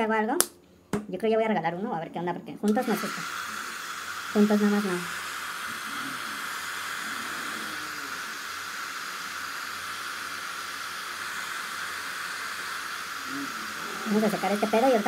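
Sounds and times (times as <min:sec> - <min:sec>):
electric blower hissing: 0:02.7 - 0:15.0.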